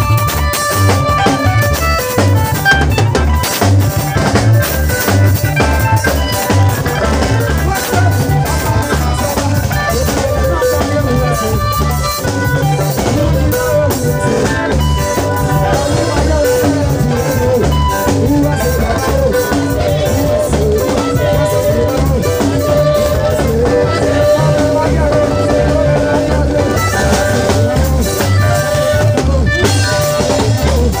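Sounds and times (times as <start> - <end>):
drum kit beat: 0.0 - 31.0
guitar: 0.0 - 31.0
man singing into microphone: 0.0 - 31.0.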